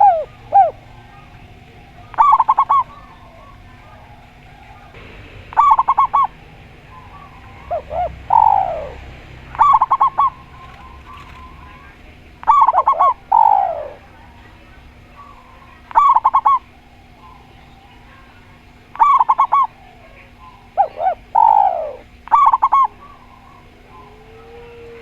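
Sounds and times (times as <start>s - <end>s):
dove falling coo: 0.0s - 25.0s
dove rapid cooing: 0.0s - 25.0s.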